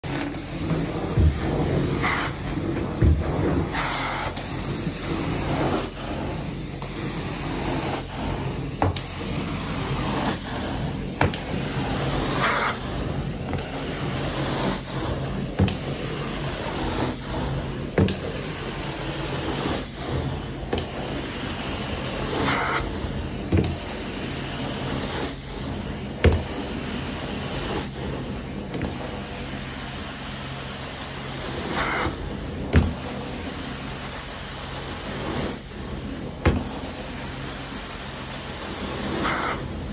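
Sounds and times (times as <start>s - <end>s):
carpet extraction suction rushing: 0.0s - 39.9s.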